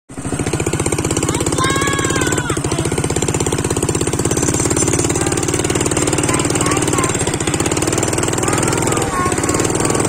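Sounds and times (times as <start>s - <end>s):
atv engine running: 0.1s - 10.0s.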